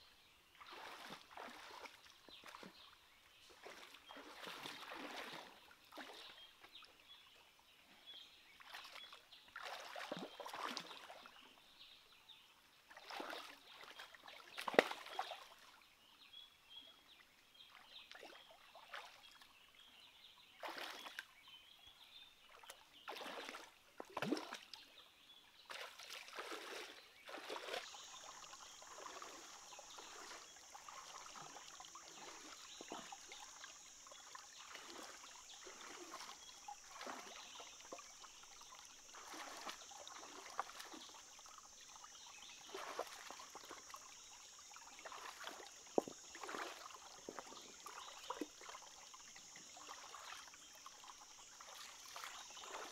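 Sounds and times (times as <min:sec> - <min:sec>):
faint water trickle: 0:00.1 - 0:52.9
water splashing and sloshing: 0:00.5 - 0:07.4, 0:08.5 - 0:11.6, 0:12.8 - 0:15.9, 0:17.6 - 0:19.6, 0:20.5 - 0:21.4, 0:22.4 - 0:25.0, 0:25.6 - 0:52.9.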